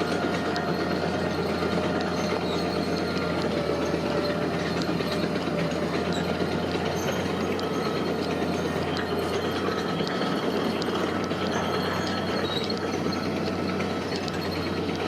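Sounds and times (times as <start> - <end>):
heavy machinery engine running: 0.0 - 15.0
metallic clatter and squeal: 0.0 - 15.0.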